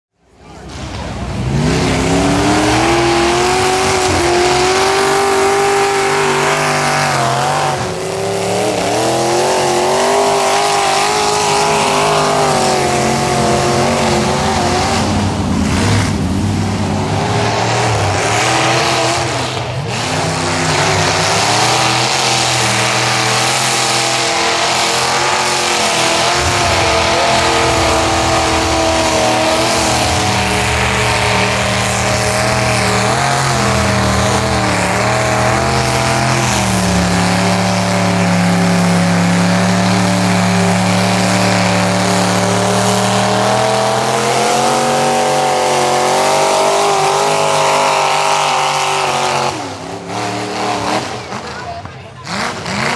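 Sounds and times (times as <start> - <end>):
tires churning mud: 0.1 - 52.9
truck engine revving: 0.1 - 52.9.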